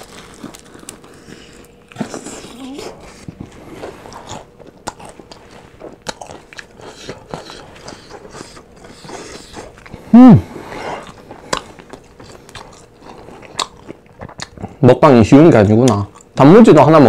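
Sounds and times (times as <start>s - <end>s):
chewing and crunching: 0.0s - 15.0s, 15.6s - 16.6s.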